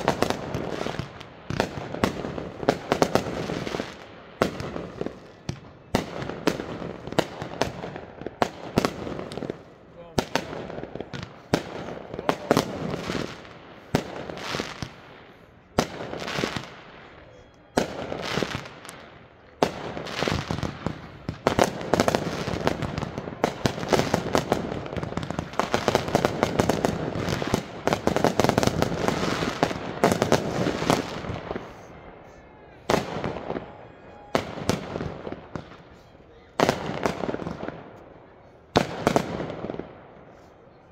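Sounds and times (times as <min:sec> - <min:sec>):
fireworks bangs: 0:00.0 - 0:40.7
fireworks bursts and crackle: 0:00.0 - 0:40.9.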